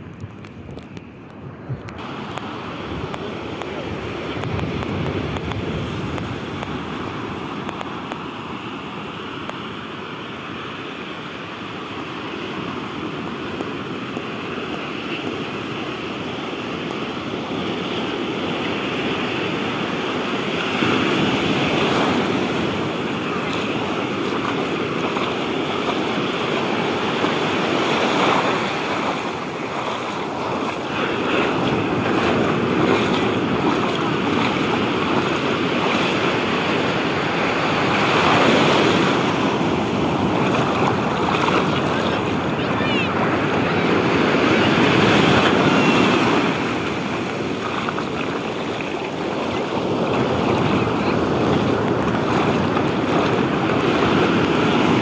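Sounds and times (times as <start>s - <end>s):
ocean surf breaking: 2.0s - 55.0s.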